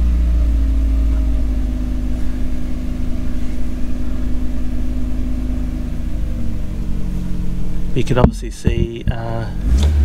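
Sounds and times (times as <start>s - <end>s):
car engine idling unevenly: 0.0s - 10.0s.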